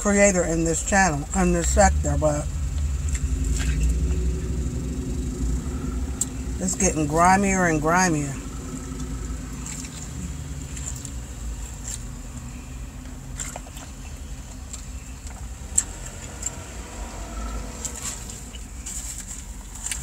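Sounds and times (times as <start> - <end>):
car interior rumble: 0.0 - 20.0.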